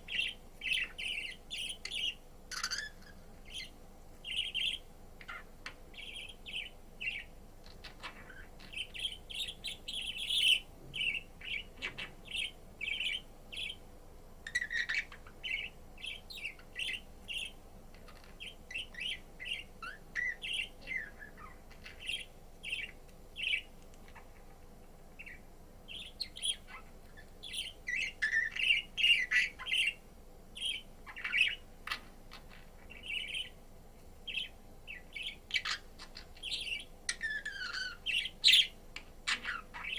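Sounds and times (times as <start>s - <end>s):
budgerigar chirping: 0.1s - 13.8s, 14.5s - 24.4s, 25.2s - 30.0s, 30.6s - 33.6s, 34.3s - 39.9s.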